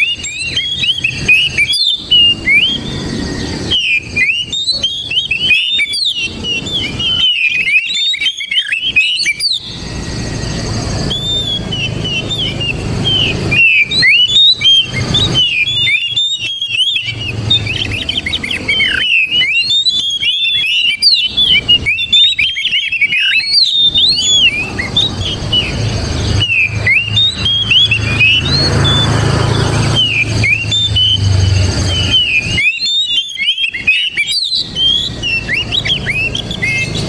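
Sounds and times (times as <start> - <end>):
bird singing whistled notes: 0.0 - 37.0.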